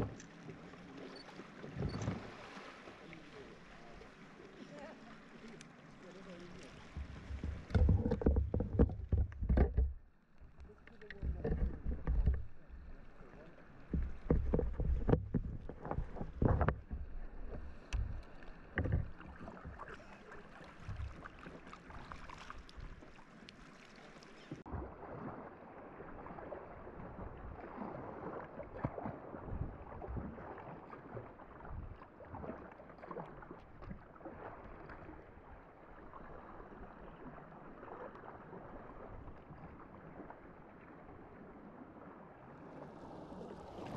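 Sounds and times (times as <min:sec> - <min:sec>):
paddle water splashing: 0:00.0 - 0:43.9.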